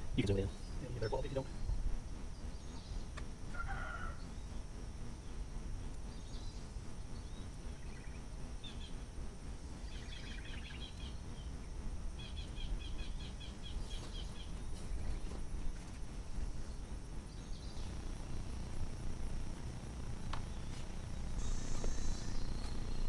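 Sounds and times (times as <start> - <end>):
low background rumble: 0.0 - 23.0
small birds chirping: 0.0 - 23.0.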